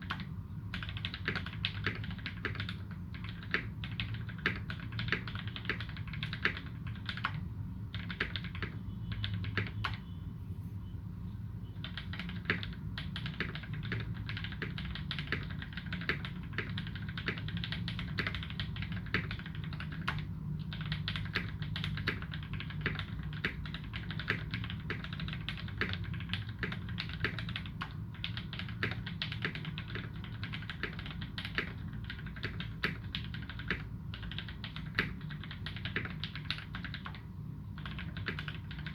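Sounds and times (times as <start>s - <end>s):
mechanical keyboard typing: 0.0s - 10.1s, 11.8s - 38.9s.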